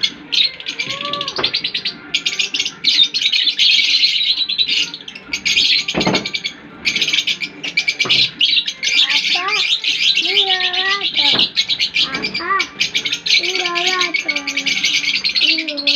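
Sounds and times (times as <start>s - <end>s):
lovebirds chirping: 0.0s - 15.9s.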